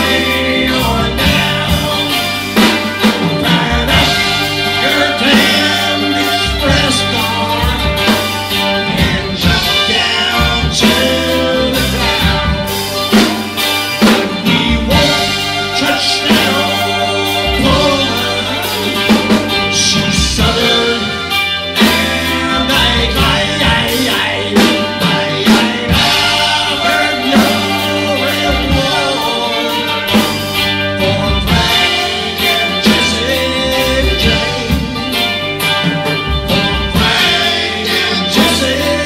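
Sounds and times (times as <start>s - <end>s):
bass guitar: 0.0s - 39.0s
drum kit: 0.0s - 39.0s
electric guitar: 0.0s - 39.0s
person singing: 0.0s - 39.0s.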